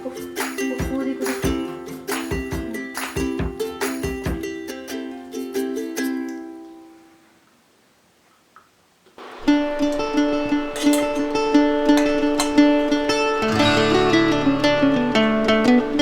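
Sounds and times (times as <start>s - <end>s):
plucked string music: 0.0s - 6.8s, 9.2s - 16.0s.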